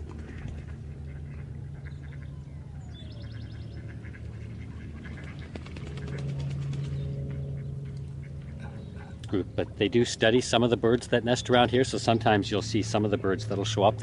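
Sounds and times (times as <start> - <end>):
steady low hum: 0.0 - 14.0
waterbirds calling: 0.0 - 14.0.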